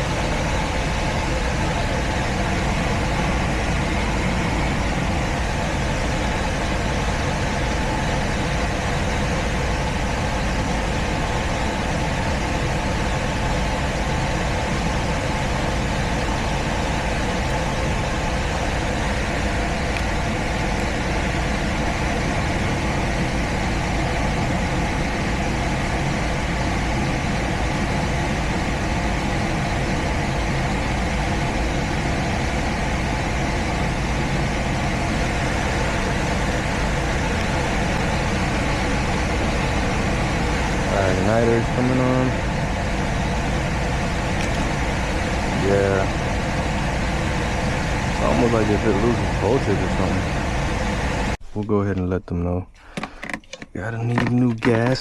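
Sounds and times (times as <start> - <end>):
furnace motor hum: 0.0 - 52.0, 52.6 - 55.0.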